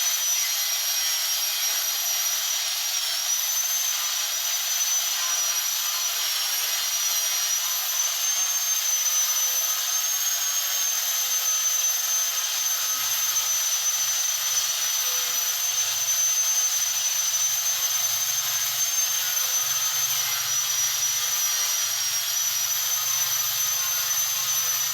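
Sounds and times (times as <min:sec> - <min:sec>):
electric grinder whining: 0:00.0 - 0:24.9.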